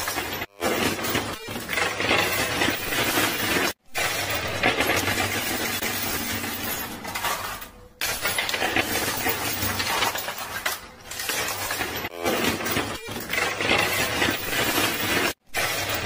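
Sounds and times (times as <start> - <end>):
chips and coins clattering: 0.0 - 16.0.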